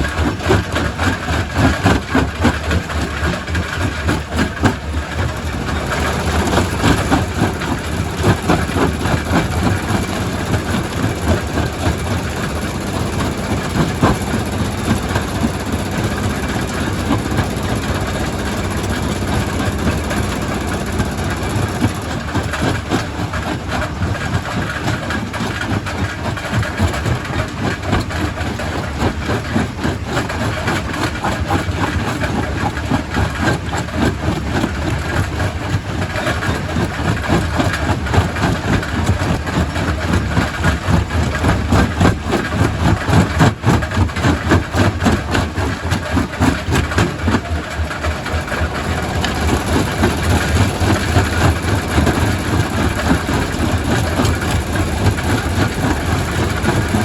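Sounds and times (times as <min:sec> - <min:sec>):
rock crusher rumbling: 0:00.0 - 0:57.0.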